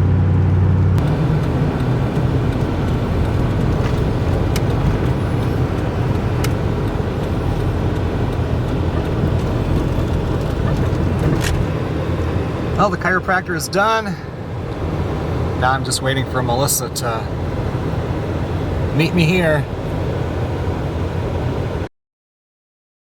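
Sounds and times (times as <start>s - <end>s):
road and engine rumble in a car: 0.0s - 21.9s.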